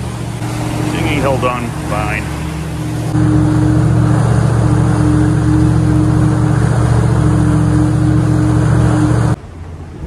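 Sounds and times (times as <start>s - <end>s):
boat engine droning: 0.0s - 10.0s
water splashing along hull: 0.0s - 10.0s.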